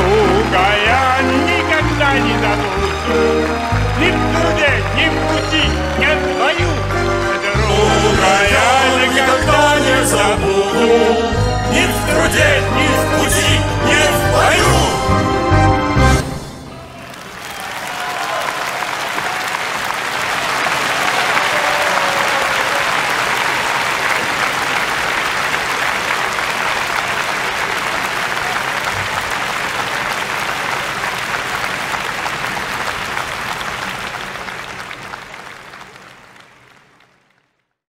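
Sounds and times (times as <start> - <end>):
audience applauding: 0.0 - 15.0, 16.2 - 37.7.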